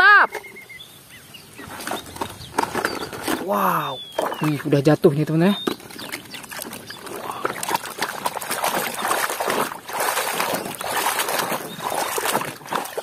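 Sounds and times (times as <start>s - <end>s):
water sloshing in plastic basin: 1.6s - 13.0s.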